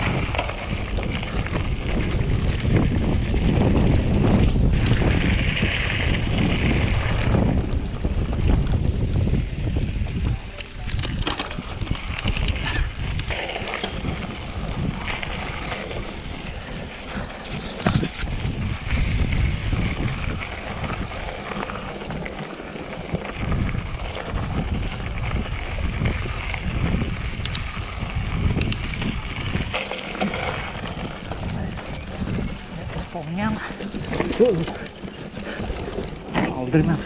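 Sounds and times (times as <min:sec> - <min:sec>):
bike clicks and knocks: 0:00.0 - 0:37.0
bike tyres crunching on gravel: 0:00.0 - 0:37.0
wind rumble on microphone: 0:00.0 - 0:37.0.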